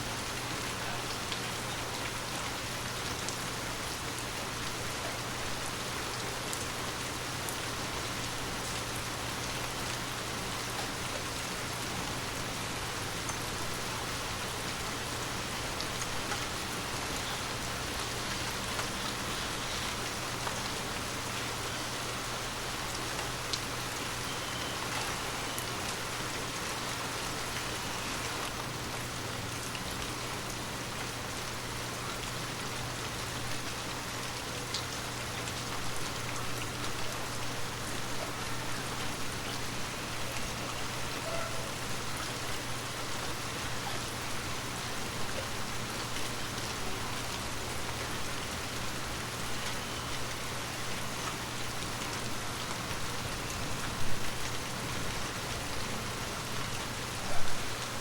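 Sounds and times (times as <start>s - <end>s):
heavy rain: 0.0s - 58.0s
sharp raindrops striking nearby: 0.0s - 58.0s.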